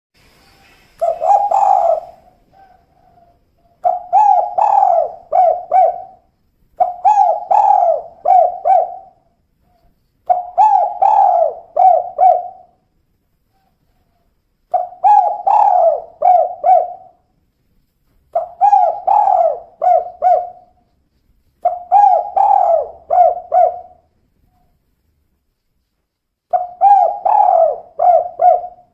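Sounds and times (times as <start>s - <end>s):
dove cooing: 0.6s - 12.8s, 13.5s - 17.2s, 18.3s - 20.9s, 21.6s - 24.7s, 26.5s - 28.9s.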